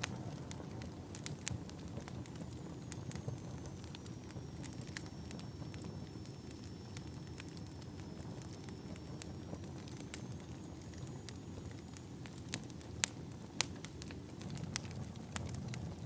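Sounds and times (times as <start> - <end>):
low rumble of burning logs: 0.0 - 16.0
sharp pops of fire: 0.0 - 16.0
wood fire crackling: 0.0 - 16.0.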